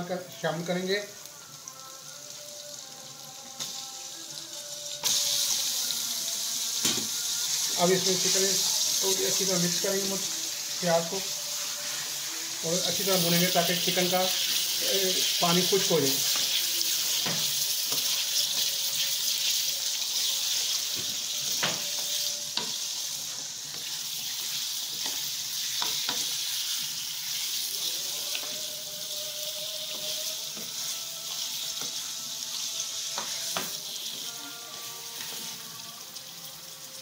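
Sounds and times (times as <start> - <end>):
chicken sizzling in hot oil: 0.0 - 37.0.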